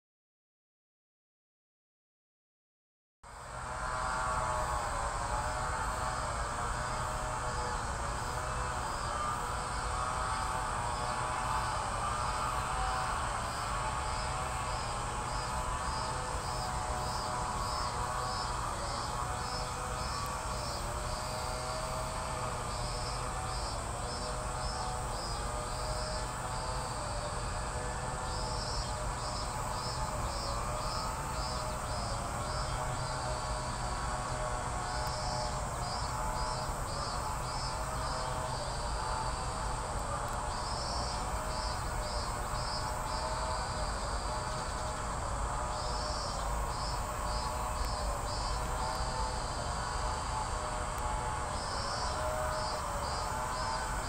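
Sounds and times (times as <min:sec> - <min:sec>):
continuous steady drone: 0:03.3 - 0:54.0
insects chirping in pulses: 0:03.4 - 0:54.0.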